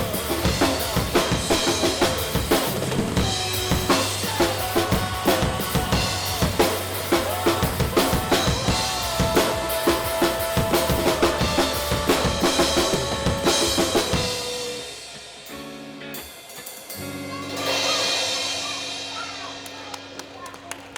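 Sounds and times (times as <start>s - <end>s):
recorded rock song: 0.0s - 19.7s
drum kit playing: 0.0s - 20.5s.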